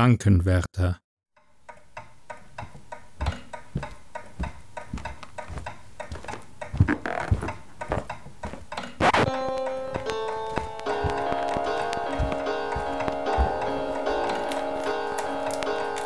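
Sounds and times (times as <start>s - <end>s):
rapid even ticking: 1.4s - 16.0s
background music: 2.2s - 16.0s.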